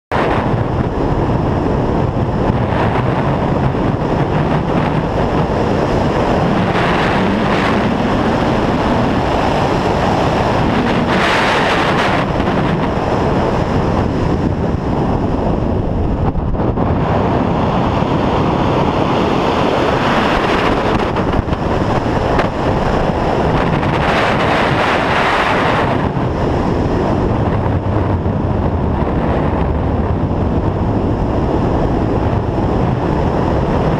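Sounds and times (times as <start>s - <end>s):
wind noise on microphone: 0.1s - 33.9s.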